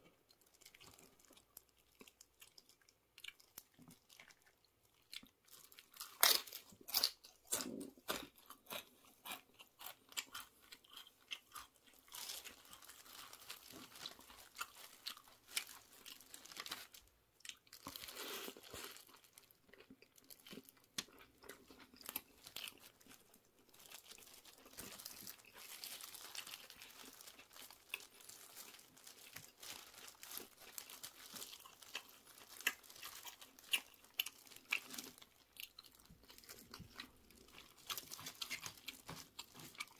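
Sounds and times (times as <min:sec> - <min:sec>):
crunching and chewing chips: 0:00.1 - 0:39.9.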